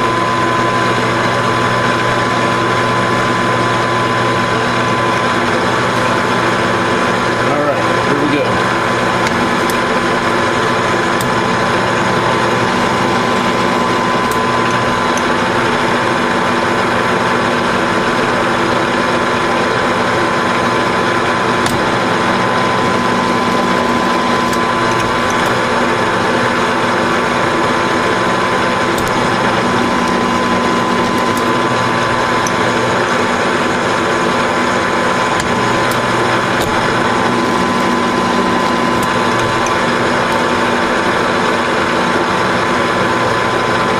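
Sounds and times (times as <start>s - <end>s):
metal lathe whining: 0.0s - 43.9s.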